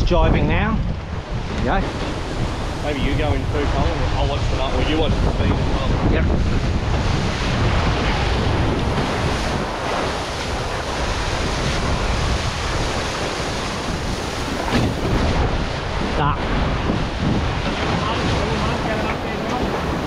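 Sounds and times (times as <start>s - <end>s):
water rushing along hulls: 0.0s - 20.0s
water splashes: 0.0s - 20.0s
wind buffeting microphone: 0.0s - 20.0s.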